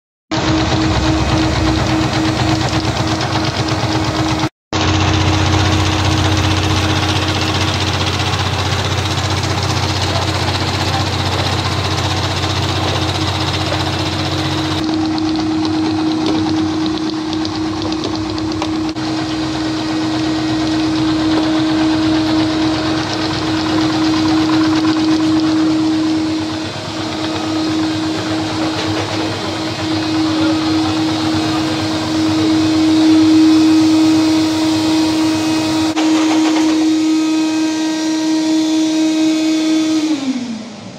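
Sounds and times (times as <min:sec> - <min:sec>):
deep hum: 0:00.3 - 0:40.9.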